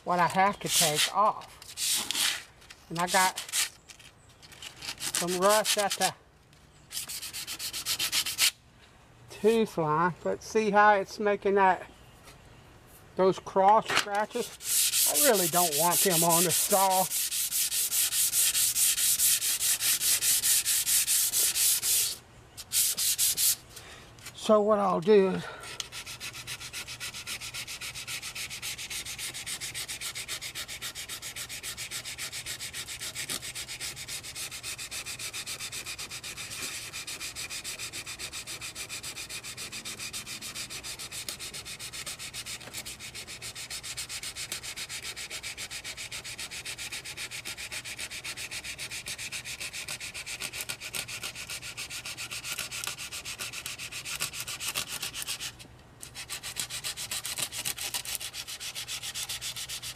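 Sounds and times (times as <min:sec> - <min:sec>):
sandpaper scraping steel: 0:00.1 - 0:04.0, 0:04.6 - 0:06.1, 0:06.9 - 0:08.6, 0:14.2 - 0:23.7, 0:25.7 - 0:59.9.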